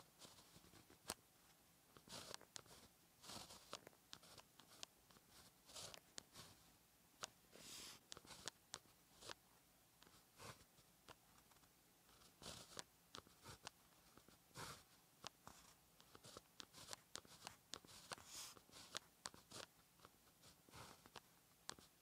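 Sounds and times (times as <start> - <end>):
pen scratching on paper: 0.2 - 1.2, 2.0 - 9.4, 10.0 - 22.0.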